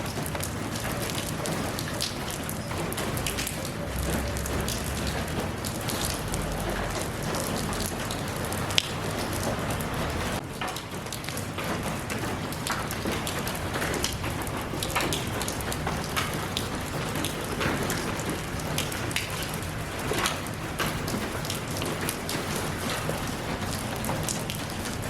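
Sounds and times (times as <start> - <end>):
raindrops spattering on surfaces: 0.0 - 25.0
steady rain falling: 0.0 - 25.0.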